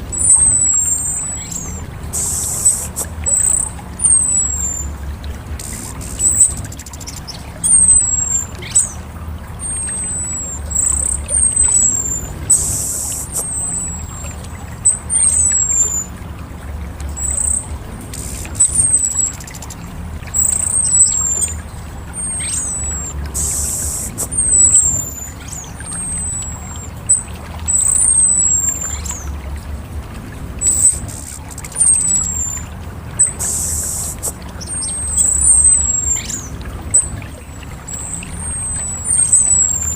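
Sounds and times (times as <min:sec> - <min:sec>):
thrush calling high sliding notes: 0:00.0 - 0:05.0, 0:09.6 - 0:16.2, 0:17.2 - 0:29.4, 0:30.6 - 0:39.9
low hum: 0:00.0 - 0:39.9.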